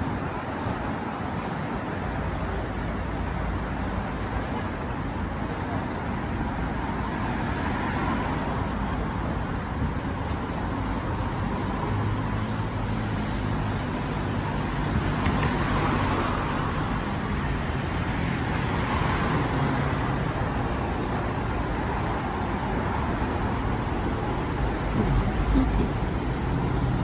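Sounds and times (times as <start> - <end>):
city road traffic hum: 0.0 - 27.0.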